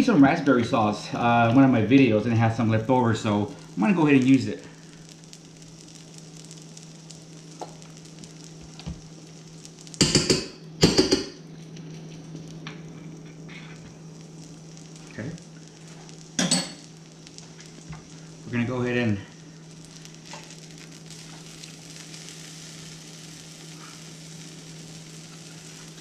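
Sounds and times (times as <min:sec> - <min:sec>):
french toast sizzling on griddle: 0:00.2 - 0:26.0.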